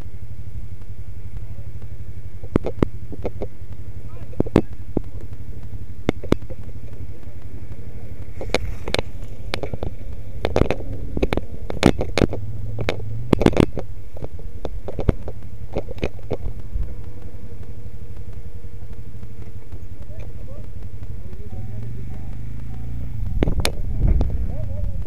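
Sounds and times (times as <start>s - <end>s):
engine running at low revs: 0.0s - 25.0s
knocks and rattles over rough ground: 1.8s - 17.3s, 18.8s - 25.0s.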